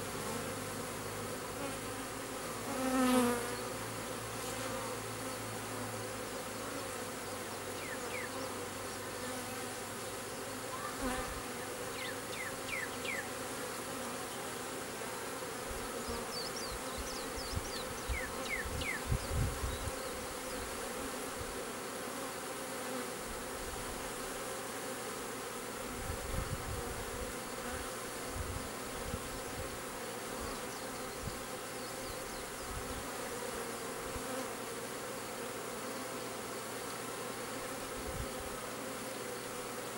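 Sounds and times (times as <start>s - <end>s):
bee swarm buzzing: 0.0s - 39.9s.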